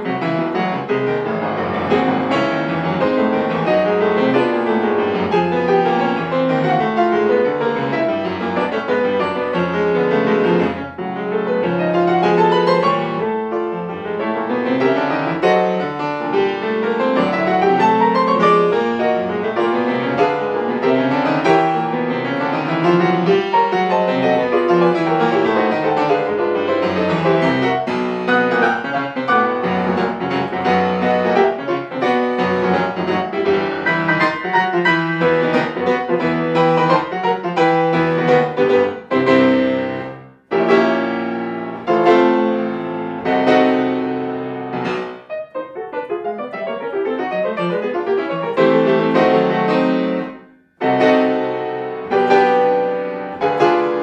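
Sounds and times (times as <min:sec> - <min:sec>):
grand piano classical passage: 0:00.0 - 0:54.0.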